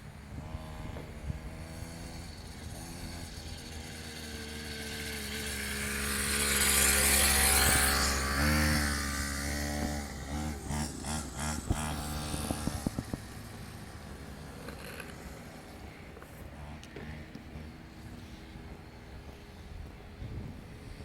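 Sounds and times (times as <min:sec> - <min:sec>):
mini dirt bike engine running: 0:00.0 - 0:21.0.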